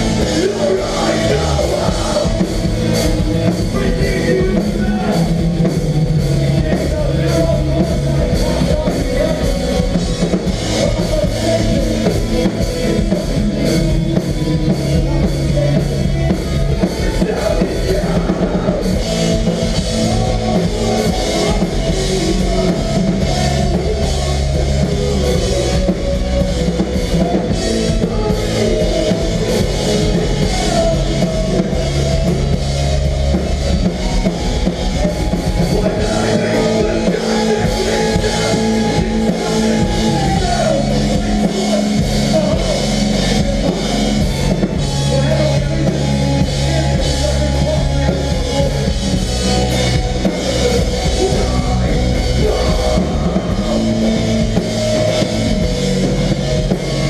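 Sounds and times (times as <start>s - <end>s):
hardcore band playing live: 0.0s - 57.0s.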